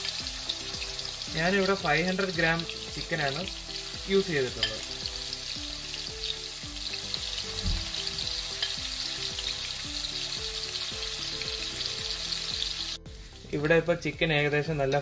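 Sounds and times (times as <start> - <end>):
chicken sizzling in oil: 0.0 - 15.0
soft background music: 0.0 - 15.0.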